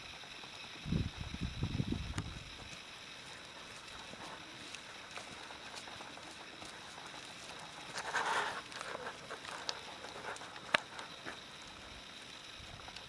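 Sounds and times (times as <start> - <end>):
hooves on muddy ground: 2.2 - 13.0.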